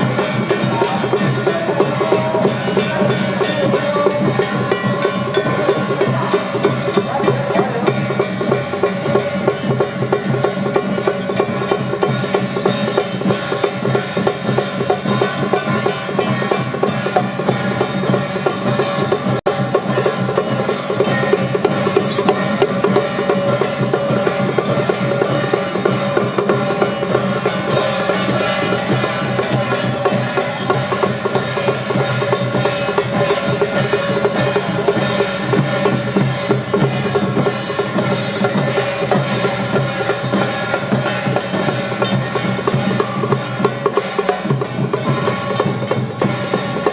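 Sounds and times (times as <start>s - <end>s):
loud music with percussion beat: 0.0s - 46.9s.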